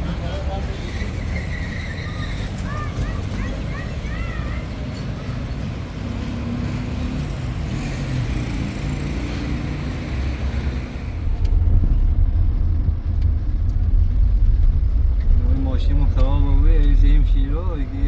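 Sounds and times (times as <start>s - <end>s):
motor vehicle rumbling: 0.0s - 18.0s.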